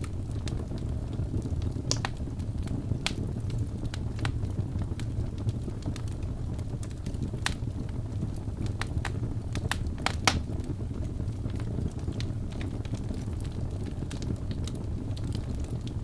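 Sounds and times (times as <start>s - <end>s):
burning logs crackling and popping: 0.0s - 16.0s
fire flames rushing: 0.0s - 16.0s.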